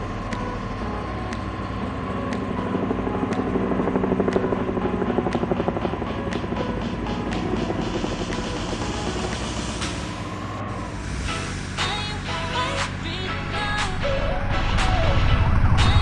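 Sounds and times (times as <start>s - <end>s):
music: 0.0s - 16.0s
vehicle engine throbbing: 0.0s - 16.0s.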